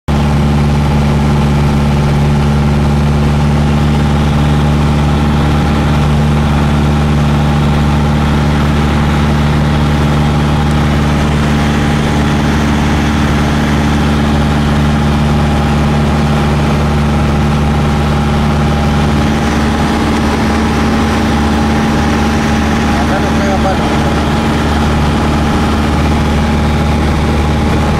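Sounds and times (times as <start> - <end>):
light aircraft engine droning: 0.1 - 27.9.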